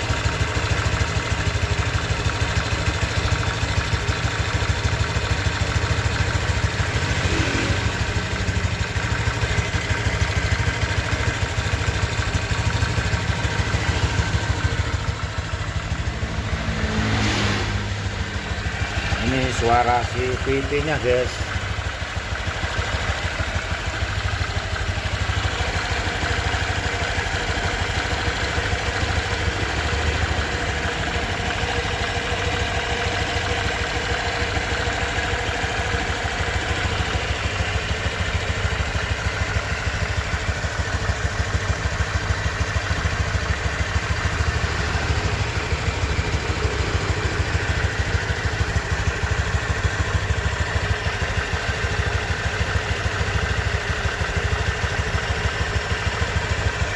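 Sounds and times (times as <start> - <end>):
scooter engine idling: 0.0 - 56.9.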